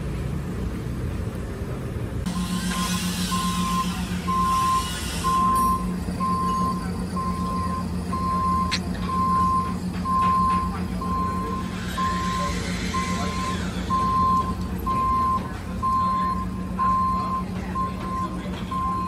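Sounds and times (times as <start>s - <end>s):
diesel engine running: 0.0s - 19.0s
backup alarm beeping: 2.3s - 19.0s.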